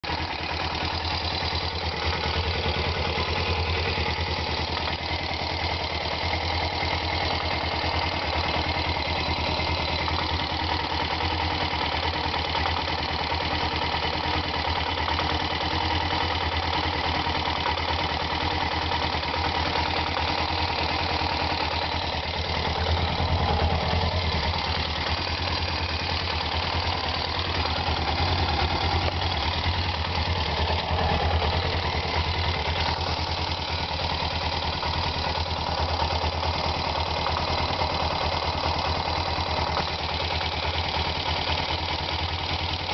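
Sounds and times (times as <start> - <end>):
motorcycle engine running: 0.0 - 42.9
soft engine knocking: 0.0 - 42.9.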